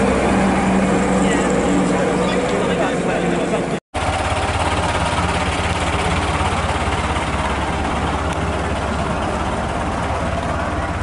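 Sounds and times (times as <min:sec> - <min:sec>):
bus engine running low: 0:00.0 - 0:11.0.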